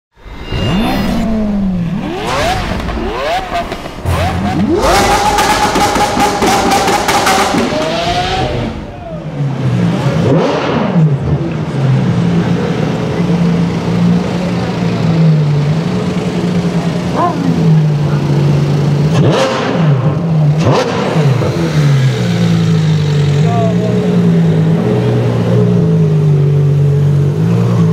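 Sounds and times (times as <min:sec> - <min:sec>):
sports car engine revving: 0:00.6 - 0:27.9.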